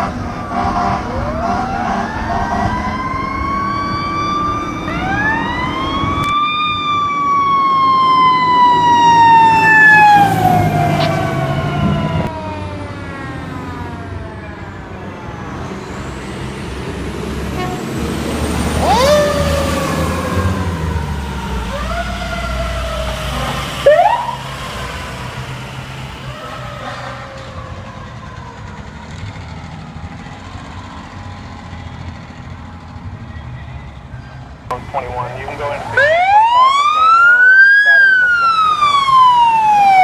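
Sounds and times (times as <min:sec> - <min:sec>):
fire truck siren wailing: 0:00.0 - 0:40.0
truck engine rumble: 0:00.0 - 0:40.0.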